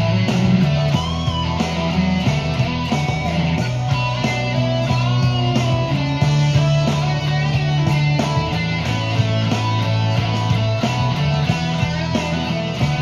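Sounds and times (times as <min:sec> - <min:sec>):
electric guitar boogie riff: 0:00.0 - 0:13.0
steady beat: 0:00.0 - 0:13.0.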